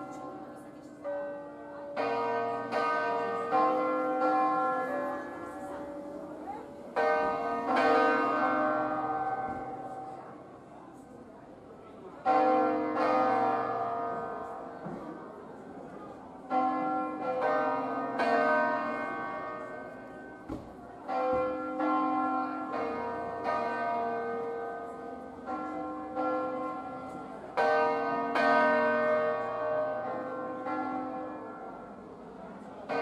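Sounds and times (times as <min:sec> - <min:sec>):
church bells pealing: 0:00.0 - 0:11.1, 0:12.1 - 0:33.0.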